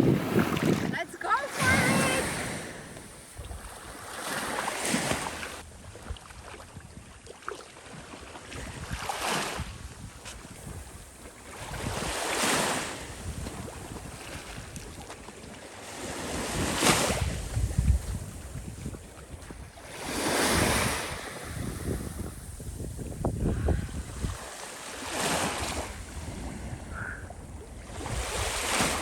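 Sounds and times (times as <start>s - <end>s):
wind buffeting microphone: 0.0s - 4.1s, 8.5s - 15.3s, 16.1s - 29.0s
small waves on shore: 0.0s - 29.0s.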